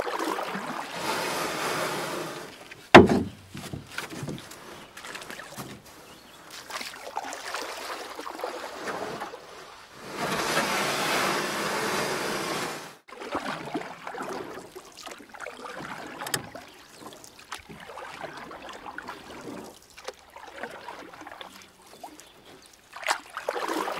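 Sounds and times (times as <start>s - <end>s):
creek water over rocks: 0.0s - 23.9s.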